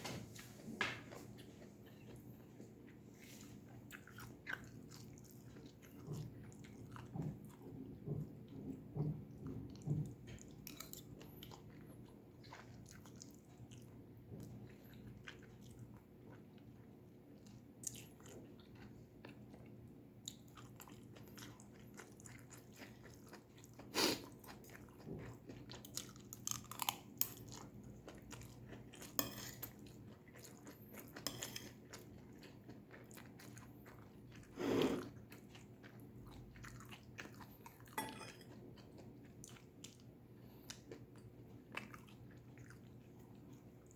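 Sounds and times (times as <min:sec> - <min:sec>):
chewing and crunching vegetables: 0:00.4 - 0:43.9.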